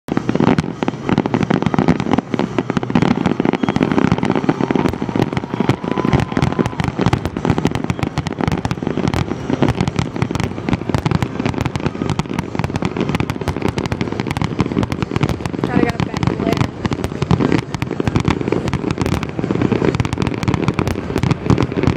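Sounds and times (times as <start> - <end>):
fireworks cracking and banging: 0.1 - 21.9.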